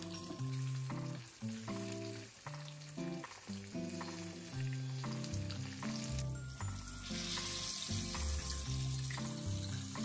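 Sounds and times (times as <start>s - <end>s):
background music low notes: 0.0s - 10.0s
oil sizzling in a pan: 0.0s - 10.0s.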